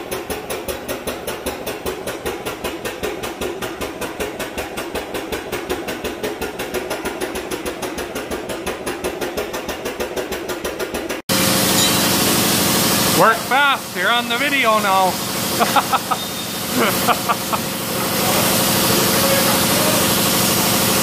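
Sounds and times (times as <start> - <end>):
machine knocking rapidly: 0.0 - 21.0.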